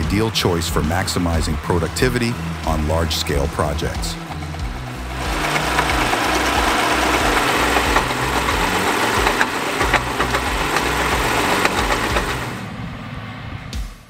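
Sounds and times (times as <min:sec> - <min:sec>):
small gasoline engine running: 0:00.0 - 0:12.7
crusher grinding: 0:00.2 - 0:12.6.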